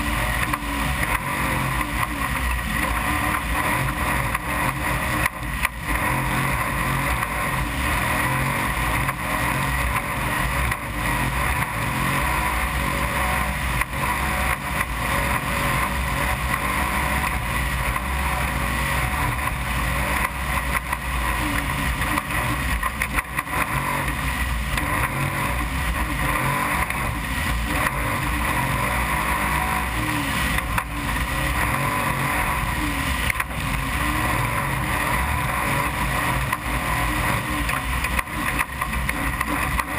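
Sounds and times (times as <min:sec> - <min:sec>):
truck engine running hard: 0:00.0 - 0:39.9.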